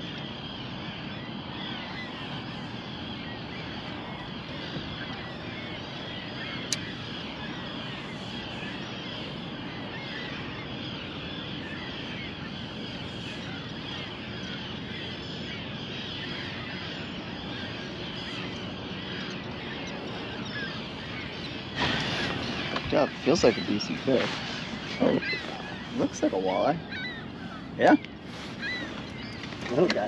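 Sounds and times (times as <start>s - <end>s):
distant birds calling: 0.0s - 30.0s
open-air hiss: 0.0s - 30.0s.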